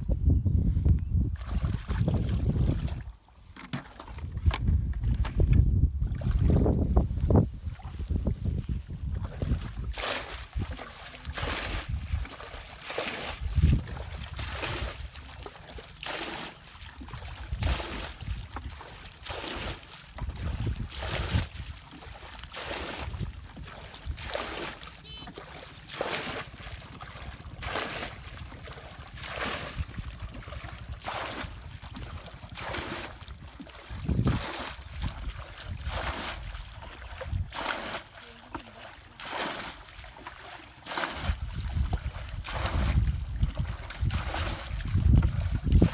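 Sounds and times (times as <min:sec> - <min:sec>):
wind rumble on microphone: 0:00.0 - 0:12.6, 0:13.2 - 0:15.4, 0:17.0 - 0:22.2, 0:22.8 - 0:24.6, 0:26.8 - 0:37.6, 0:41.2 - 0:45.9
water sloshing and splashing: 0:01.3 - 0:45.9.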